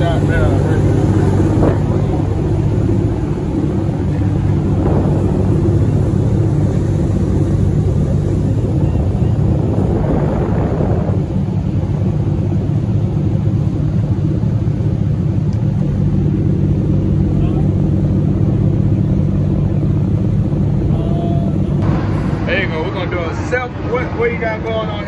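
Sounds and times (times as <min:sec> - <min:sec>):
boat engines droning: 0:00.0 - 0:25.0
wind and water noise: 0:00.0 - 0:25.0.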